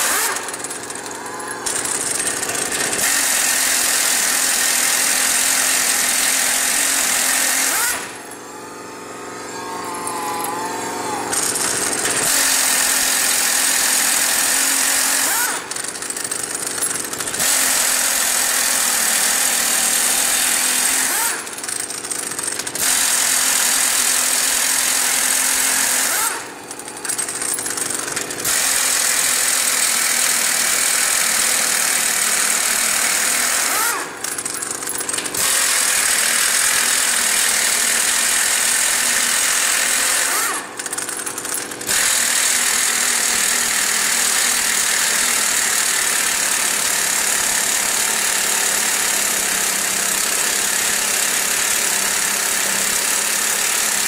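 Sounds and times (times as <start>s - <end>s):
pneumatic impact wrench hammering: 0.0s - 54.0s.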